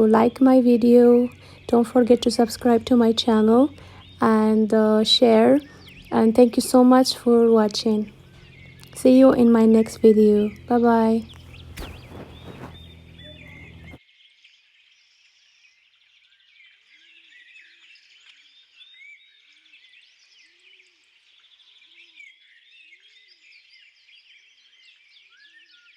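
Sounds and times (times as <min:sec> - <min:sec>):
birds chirping and trilling: 0:00.0 - 0:25.9.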